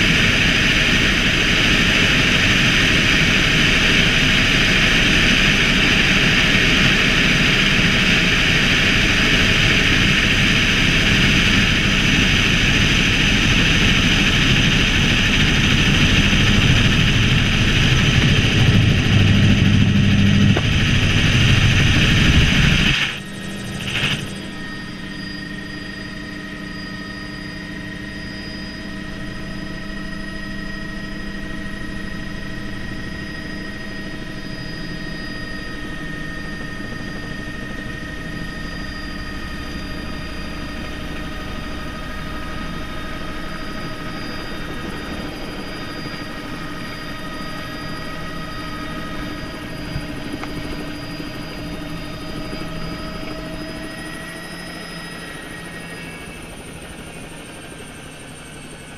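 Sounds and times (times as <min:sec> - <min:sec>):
helicopter running: 0:00.0 - 0:58.9.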